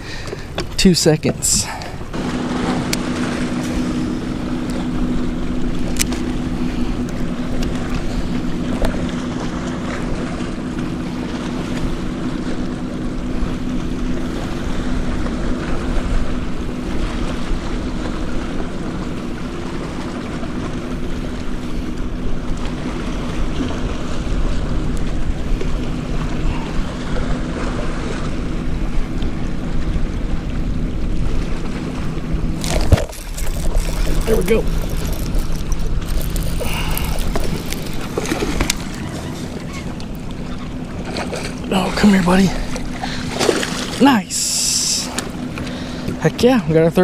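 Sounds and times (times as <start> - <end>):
low motor hum: 0.0 - 47.0
water lapping: 0.0 - 47.0
wind: 0.0 - 47.0.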